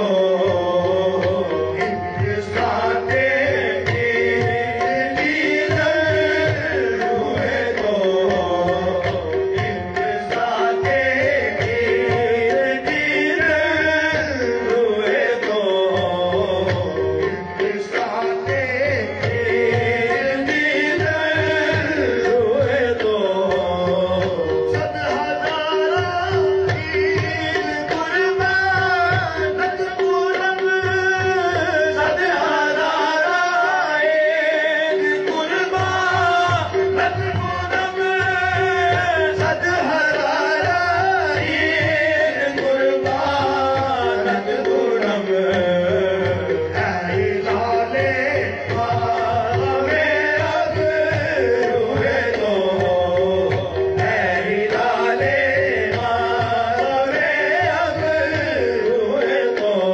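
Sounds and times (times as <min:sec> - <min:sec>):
tabla: 0:00.0 - 0:59.9
voices singing: 0:00.0 - 0:59.9.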